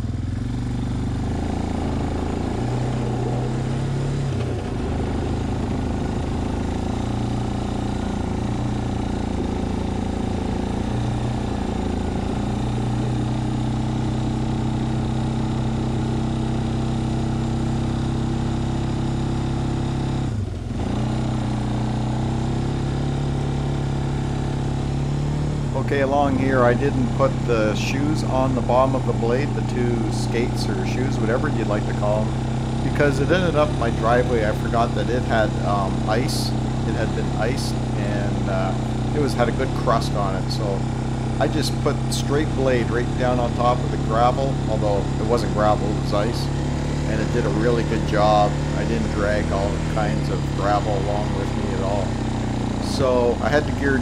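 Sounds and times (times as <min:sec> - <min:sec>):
atv engine under load: 0:00.0 - 0:54.0.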